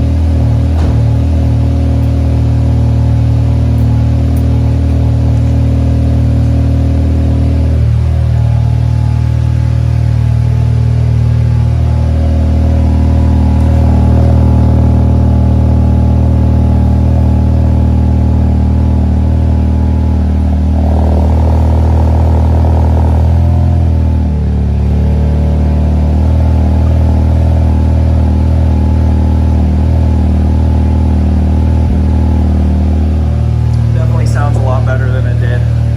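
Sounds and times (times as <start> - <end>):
car engine running: 0.0 - 35.9.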